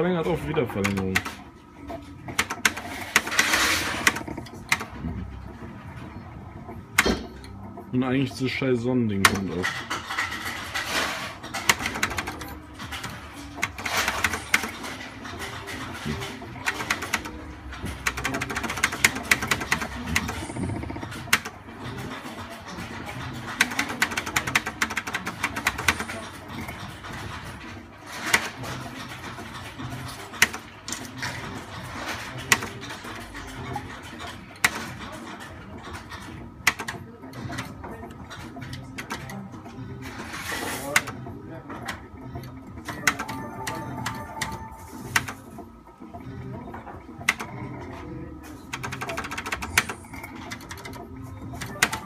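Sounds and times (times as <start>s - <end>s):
slot machine reels clicking: 0.0s - 52.0s.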